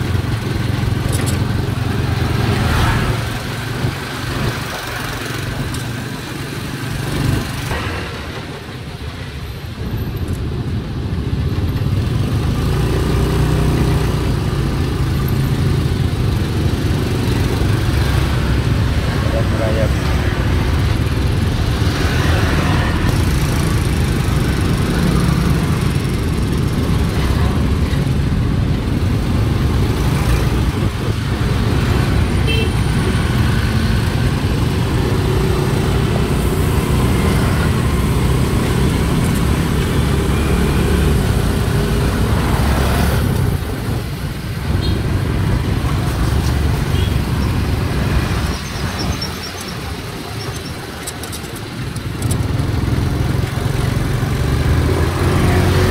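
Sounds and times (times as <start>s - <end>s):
motorcycles passing close by: 0.0s - 9.2s, 10.8s - 55.9s
city road traffic: 0.0s - 55.9s.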